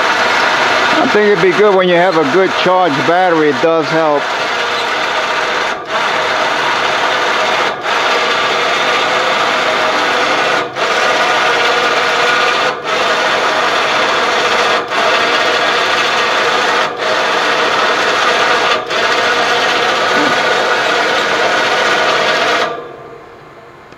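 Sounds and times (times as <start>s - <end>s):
electric motor whining: 0.0s - 22.7s.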